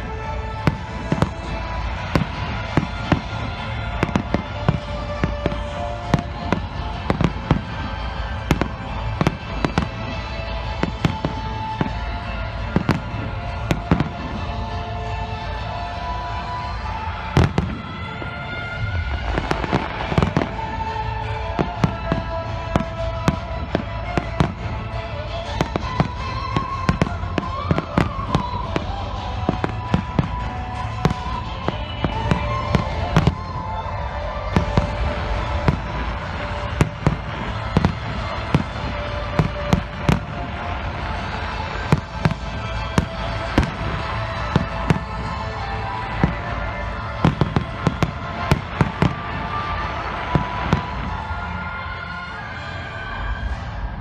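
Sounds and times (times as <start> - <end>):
fireworks bursting: 0.0 - 52.1
music playing: 0.0 - 54.0.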